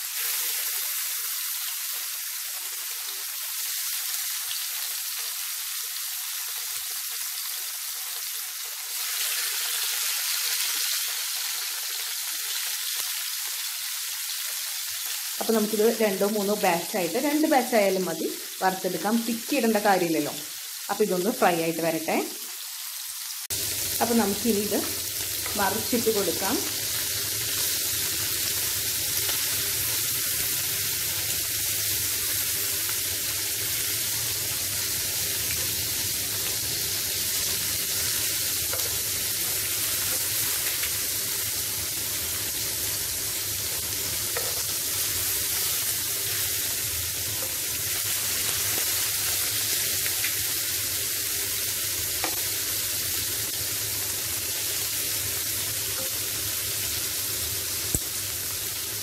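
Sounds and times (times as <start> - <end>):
prawns sizzling in oil: 0.0 - 59.0.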